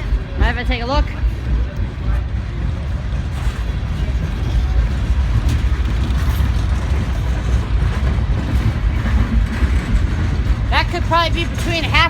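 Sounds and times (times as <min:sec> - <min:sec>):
freight train rumbling past: 0:00.0 - 0:12.0
train cars clanking: 0:00.0 - 0:12.0.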